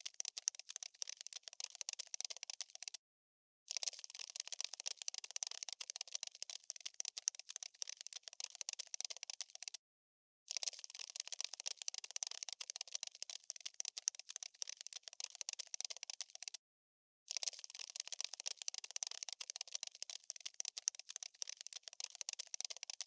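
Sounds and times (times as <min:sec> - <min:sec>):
insect scuttling crackle: 0:00.0 - 0:03.0, 0:03.7 - 0:09.8, 0:10.5 - 0:16.6, 0:17.3 - 0:23.0.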